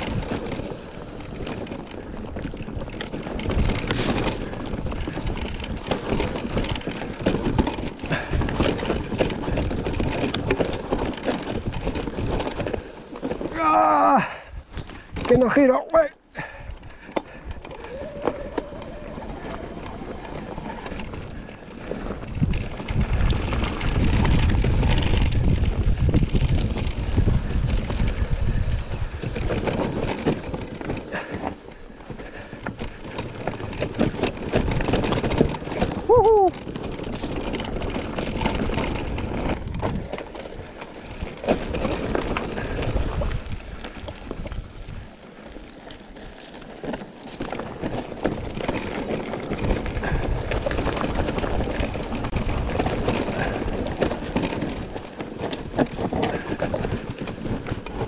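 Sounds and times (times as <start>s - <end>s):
wind buffeting microphone: 0.0s - 15.6s, 16.4s - 58.0s
bike rattling: 0.0s - 58.0s
tyres crunching over stones: 0.0s - 58.0s.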